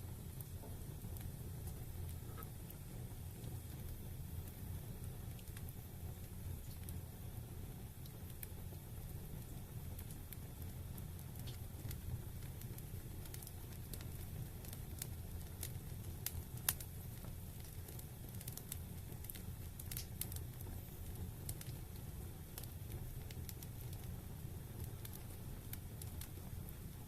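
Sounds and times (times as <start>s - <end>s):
fire crackling and popping: 0.0s - 27.0s
low fire rumble: 0.0s - 27.0s.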